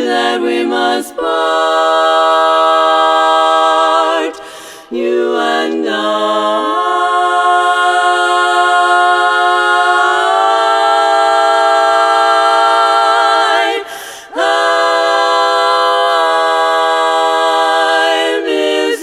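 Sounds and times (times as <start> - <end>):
voices singing in harmony: 0.0 - 19.0.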